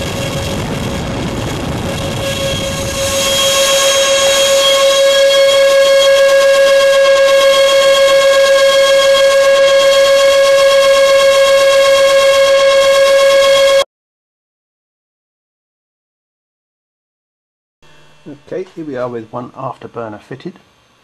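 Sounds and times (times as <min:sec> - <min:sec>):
electric ducted fans whining: 0:00.0 - 0:13.8, 0:17.9 - 0:21.0.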